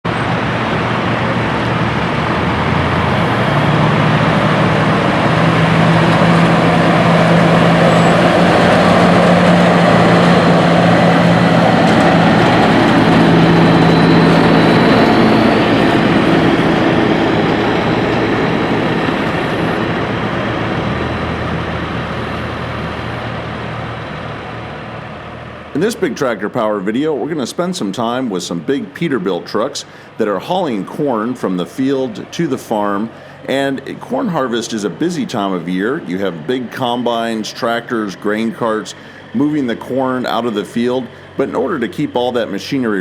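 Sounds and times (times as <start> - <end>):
truck diesel engine droning: 0.0 - 43.0.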